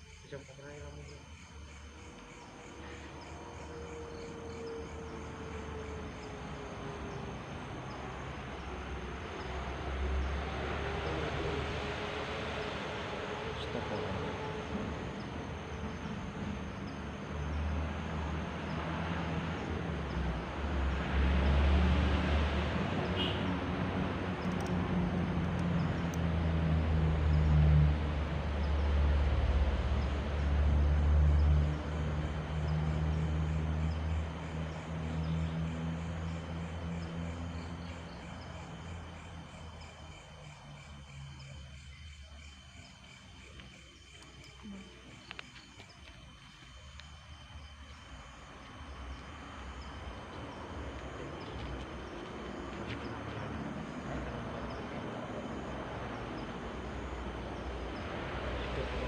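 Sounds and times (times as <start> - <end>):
insects chirping: 0.0 - 59.0
vehicle engine rumble passing: 0.3 - 59.0.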